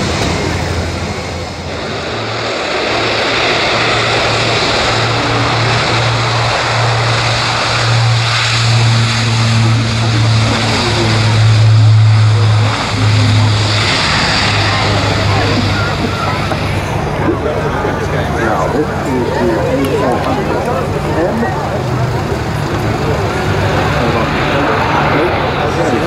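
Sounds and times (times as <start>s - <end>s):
propeller aircraft drone: 0.0s - 26.0s
rush of engine noise: 0.0s - 26.0s.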